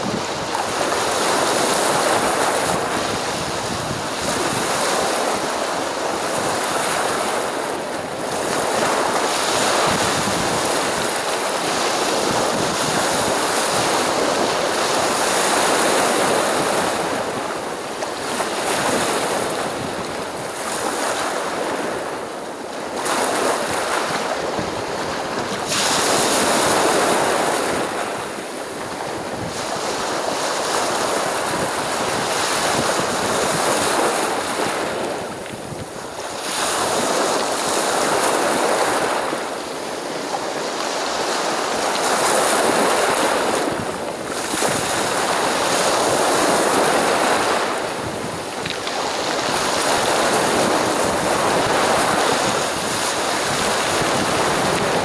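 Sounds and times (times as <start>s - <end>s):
constant surf hiss: 0.0s - 55.0s
waves breaking on shore: 0.0s - 55.0s.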